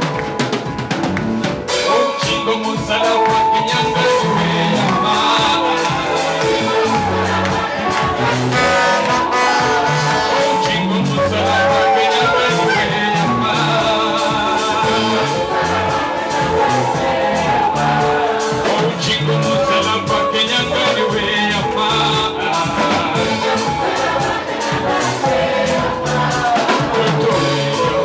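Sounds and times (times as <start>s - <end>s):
band playing music: 0.0s - 28.0s
bass line: 0.0s - 28.0s
person singing: 1.7s - 28.0s.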